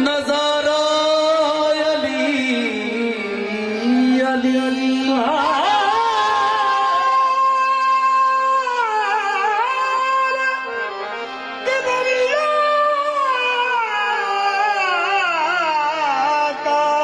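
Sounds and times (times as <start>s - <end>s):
instrumental accompaniment: 0.0s - 17.0s
man singing devotional song: 0.0s - 17.0s.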